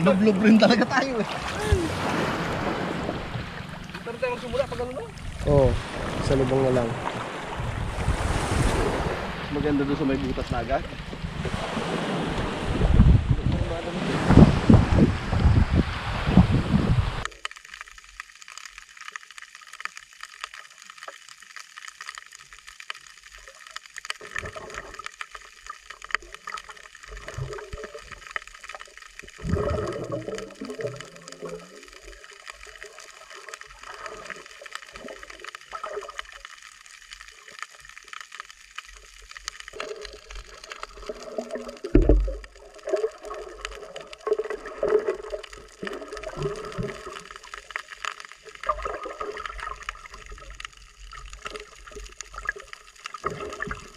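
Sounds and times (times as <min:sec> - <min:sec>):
sea water splashing and gurgling: 0:00.0 - 0:53.9.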